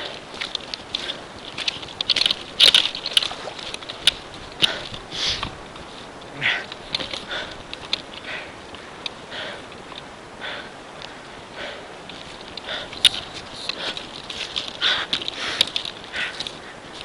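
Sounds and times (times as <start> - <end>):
rustling of person moving: 0.0 - 17.0.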